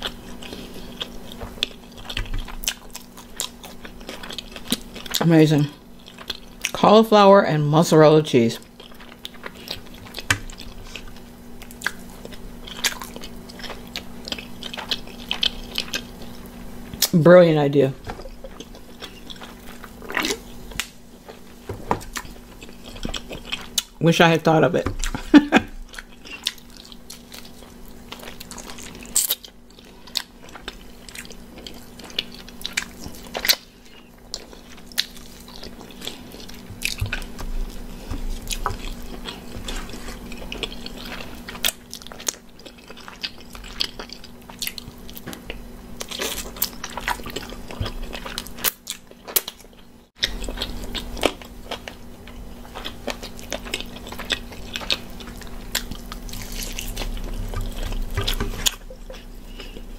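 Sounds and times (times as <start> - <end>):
faint low hum: 0.0 - 59.9
crunchy bites and chewing: 8.6 - 17.2, 18.3 - 24.0, 24.9 - 59.9.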